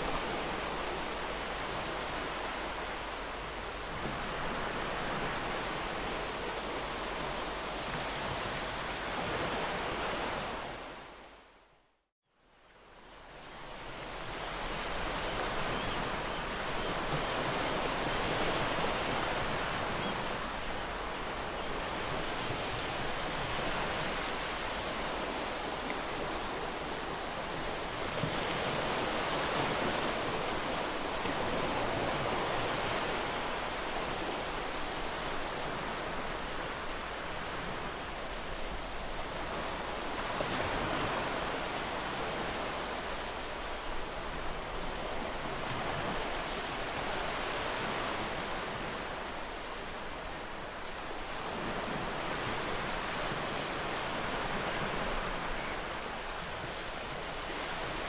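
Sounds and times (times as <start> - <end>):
ocean waves breaking on shore: 0.0 - 11.6, 12.7 - 58.0.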